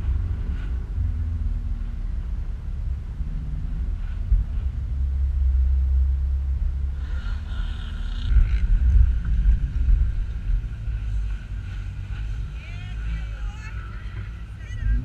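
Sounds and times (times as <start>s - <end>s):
car cabin rumble: 0.0s - 15.0s
steady high whine: 0.0s - 15.0s.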